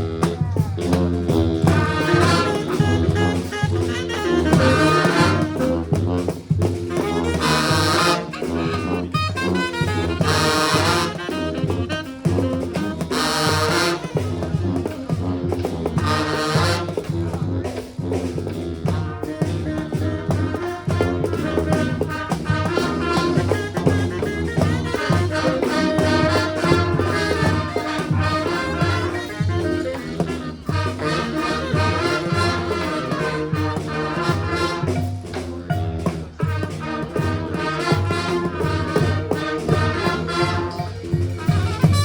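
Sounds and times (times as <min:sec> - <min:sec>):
brass band playing: 0:00.0 - 0:42.0.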